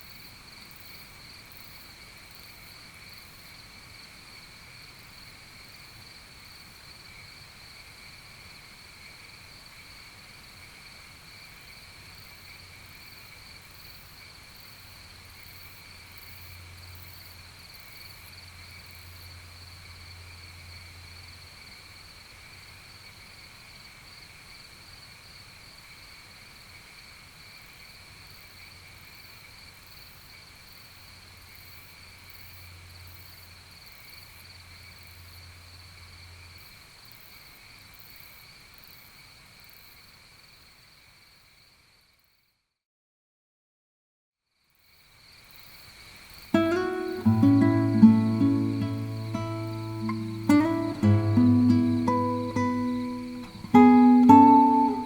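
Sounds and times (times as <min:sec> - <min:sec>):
crickets chirring: 0:00.0 - 0:42.4, 0:44.6 - 0:55.0.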